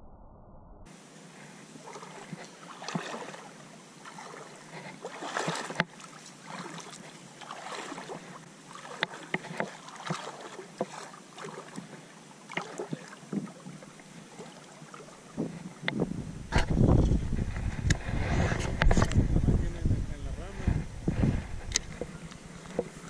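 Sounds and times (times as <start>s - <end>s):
wading through shallow water: 0.9s - 23.0s.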